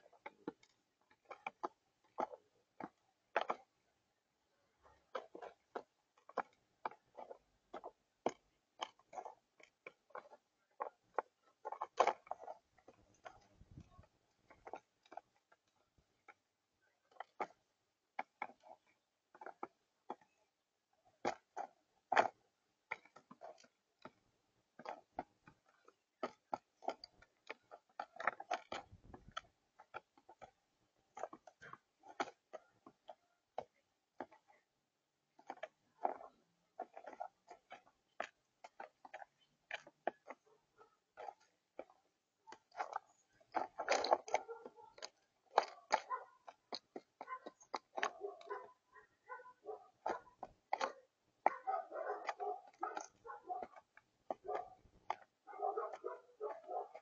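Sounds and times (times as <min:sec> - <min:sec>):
doves pecking seed: 0:00.0 - 0:57.0.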